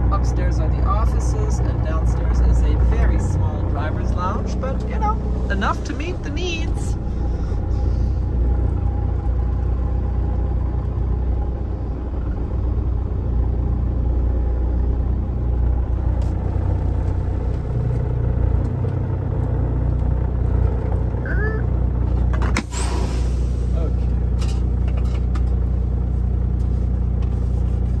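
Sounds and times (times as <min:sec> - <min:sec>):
diesel truck engine rumble: 0:00.0 - 0:28.0.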